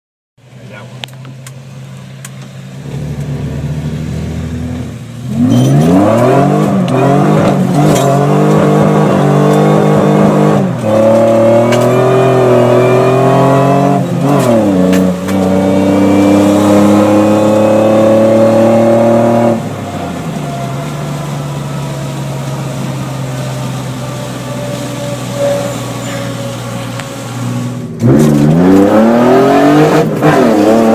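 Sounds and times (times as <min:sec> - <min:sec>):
car engine idling and revving: 0:00.4 - 0:30.9.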